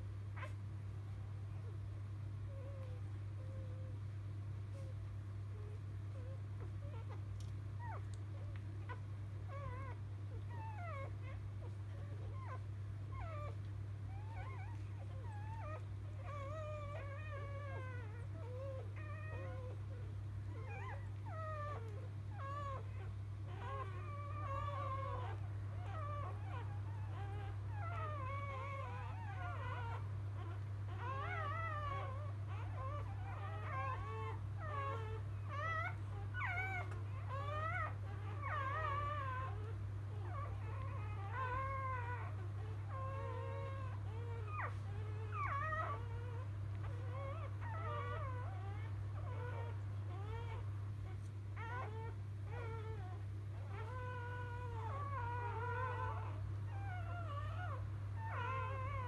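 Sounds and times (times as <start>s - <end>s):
steady low hum: 0.0s - 59.0s
puppy squeaking and whimpering: 5.5s - 59.0s.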